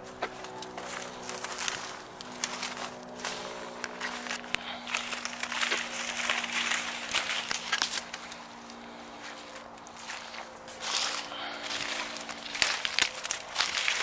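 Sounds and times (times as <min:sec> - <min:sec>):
footsteps crunching dry reeds: 0:00.0 - 0:14.0.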